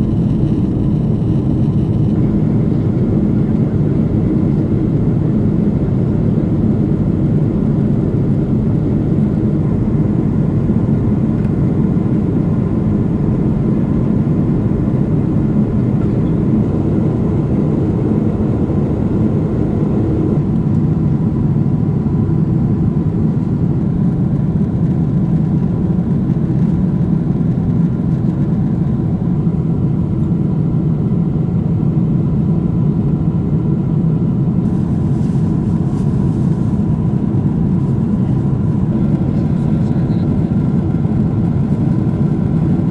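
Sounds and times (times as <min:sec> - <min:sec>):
faint steady whine: 0:00.0 - 0:31.1, 0:33.0 - 0:42.9
airplane cabin engine roar: 0:00.0 - 0:42.9.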